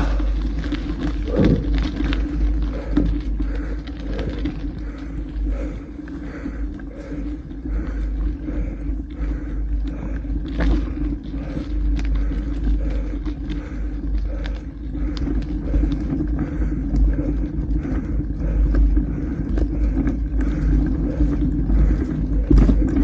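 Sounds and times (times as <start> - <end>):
bike rattling and clicking: 0.0 - 23.0
bike tyres on gravel: 0.0 - 23.0
wind rumbling on microphone: 0.0 - 23.0.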